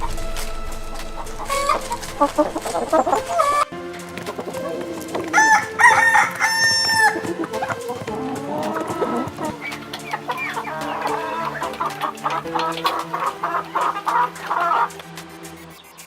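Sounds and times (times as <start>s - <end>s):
chickens clucking: 1.0s - 15.9s.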